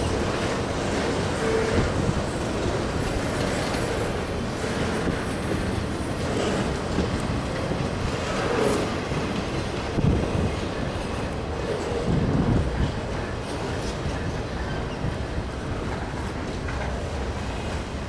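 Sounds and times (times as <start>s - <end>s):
train clatter over rail joints: 0.0s - 18.0s
train wheels rumbling on rail: 0.0s - 18.0s.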